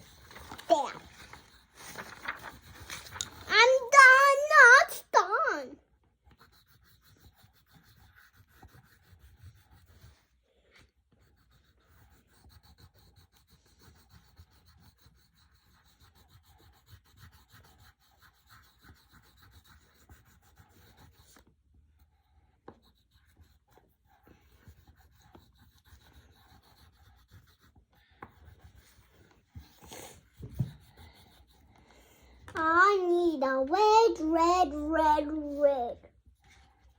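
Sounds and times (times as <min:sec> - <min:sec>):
colored pencils scratching on paper: 0:00.0 - 0:36.9.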